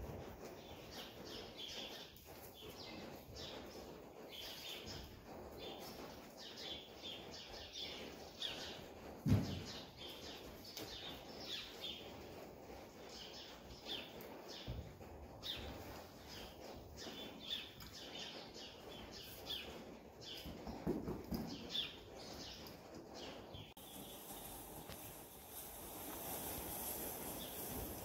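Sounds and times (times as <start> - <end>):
small birds chirping: 0.4 - 25.4.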